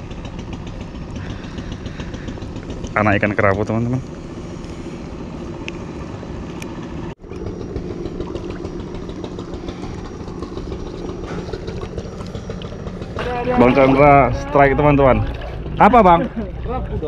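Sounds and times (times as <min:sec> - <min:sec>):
motor idling hum: 0:00.0 - 0:17.0.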